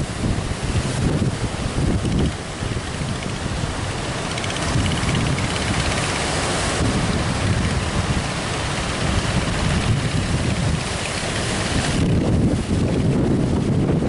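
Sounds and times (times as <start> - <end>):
heavy sea surf: 0.0 - 14.0
wind buffeting microphone: 0.0 - 14.0.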